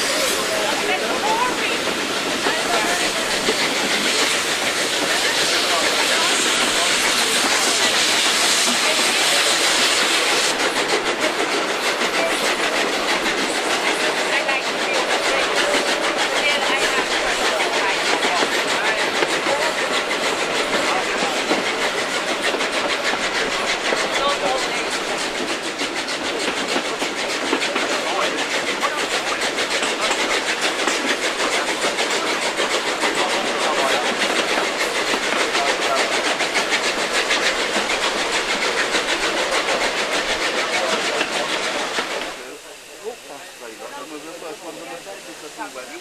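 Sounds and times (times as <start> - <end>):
steam locomotive exhaust beats: 0.0 - 46.0
wheel and rail noise: 0.0 - 46.0.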